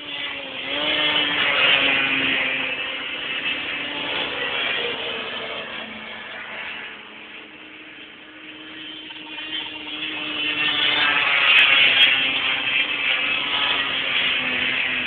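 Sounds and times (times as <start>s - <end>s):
racing snowmobile engines: 0.0s - 15.0s.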